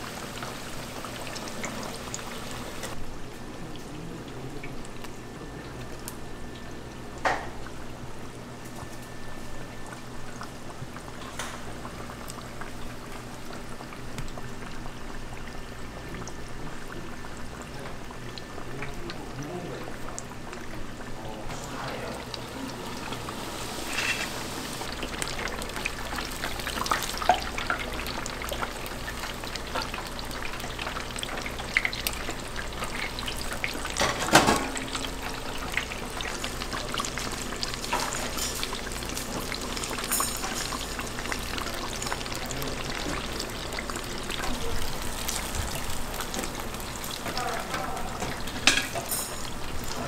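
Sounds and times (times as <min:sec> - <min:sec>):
hiss of cooking: 0:00.0 - 0:50.0.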